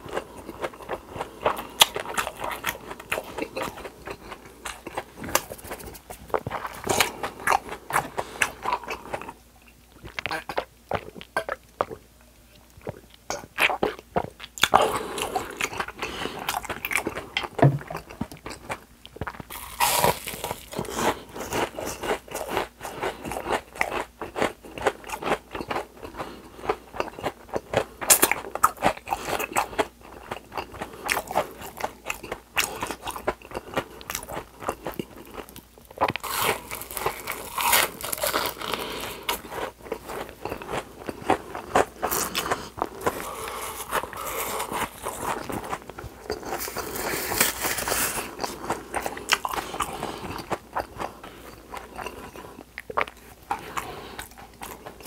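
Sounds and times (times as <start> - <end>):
crunching and chewing fried food: 0.0 - 55.0.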